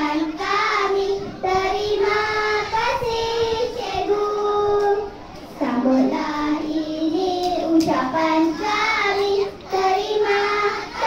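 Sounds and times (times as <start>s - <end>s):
children singing in unison: 0.0s - 11.0s.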